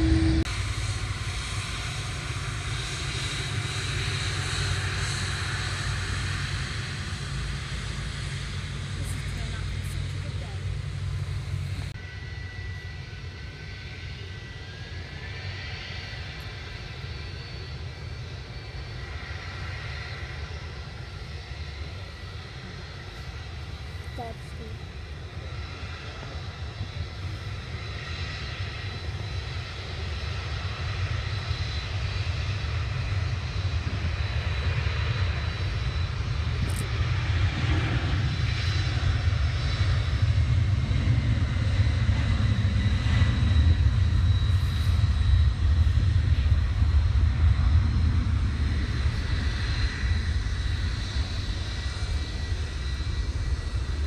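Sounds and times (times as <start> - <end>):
jet airliner taking off: 0.0 - 54.0.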